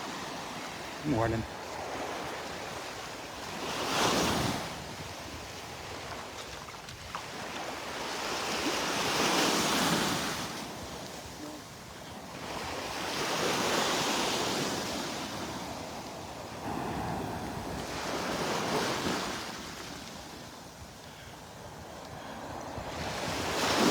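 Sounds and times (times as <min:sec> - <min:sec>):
waves breaking on beach: 0:00.0 - 0:23.9
wind on microphone: 0:03.5 - 0:23.9.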